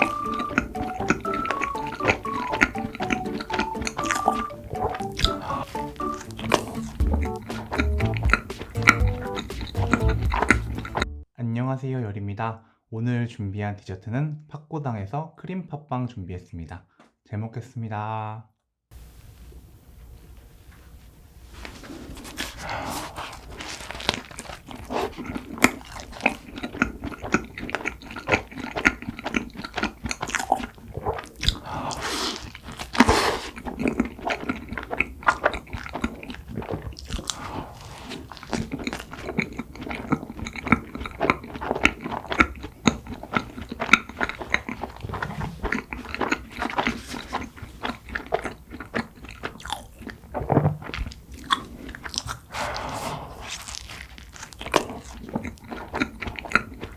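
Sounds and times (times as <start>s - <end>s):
wet mouth clicks: 0.0s - 11.1s, 22.4s - 56.9s
biting and chewing bread: 0.0s - 11.2s, 21.6s - 56.9s.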